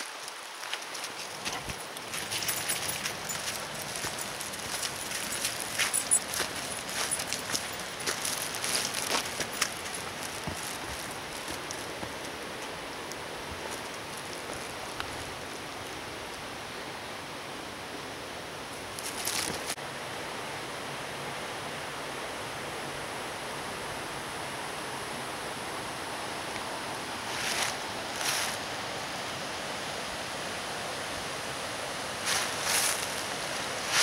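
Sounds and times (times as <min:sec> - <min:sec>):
running water rushing: 0:00.0 - 0:34.0.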